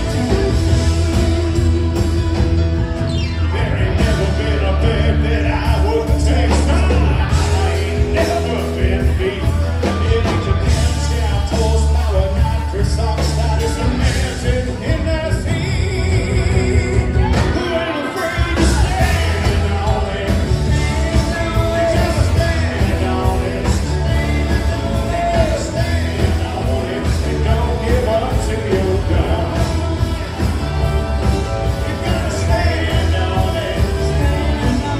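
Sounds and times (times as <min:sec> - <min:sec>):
drum kit: 0:00.0 - 0:34.9
person singing: 0:00.0 - 0:34.9.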